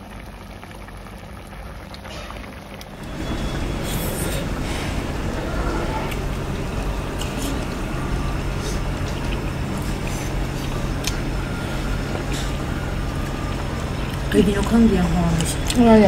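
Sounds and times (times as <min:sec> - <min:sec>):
chewing and wet mouth sounds: 0:02.9 - 0:16.0
steady low hum: 0:03.0 - 0:16.0.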